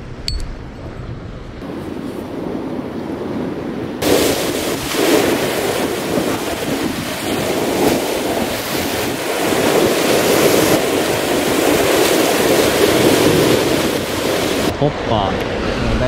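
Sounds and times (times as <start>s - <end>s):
wind buffeting microphone: 0.1s - 16.0s
sea surf washing on shore: 1.6s - 16.0s.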